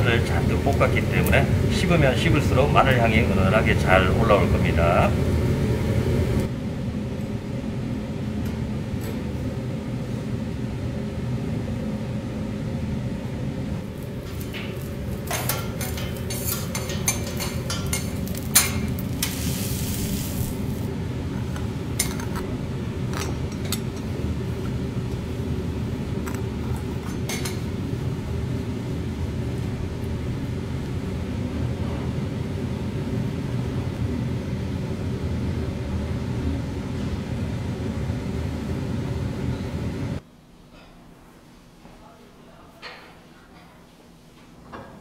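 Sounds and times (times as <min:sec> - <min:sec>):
low hum: 0:00.0 - 0:40.2.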